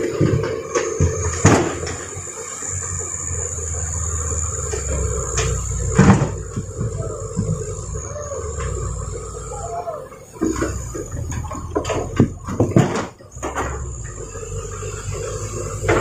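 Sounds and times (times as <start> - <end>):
heavy machinery rumbling: 0.0 - 16.0.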